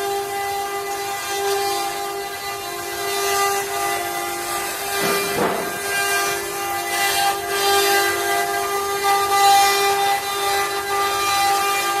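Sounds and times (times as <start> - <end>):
router spindles whining: 0.0 - 12.0
bits cutting wood: 0.4 - 12.0.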